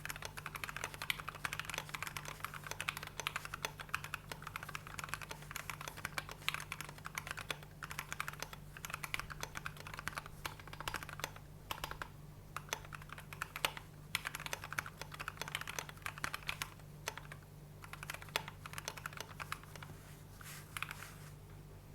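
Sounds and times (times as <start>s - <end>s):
typing on mechanical keyboard: 0.0s - 19.9s.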